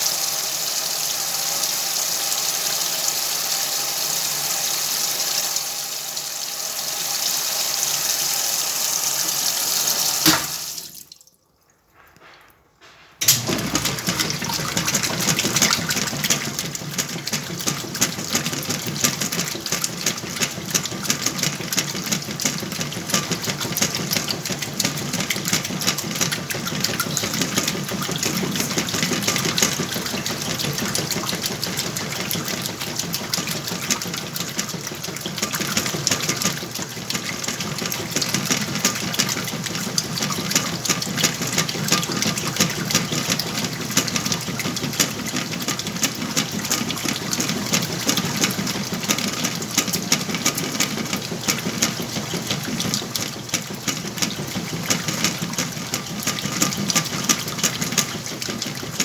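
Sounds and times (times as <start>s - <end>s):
washing machine motor running: 0.0s - 11.0s, 12.9s - 59.0s
water churning in washing machine: 0.0s - 11.3s, 12.9s - 59.0s.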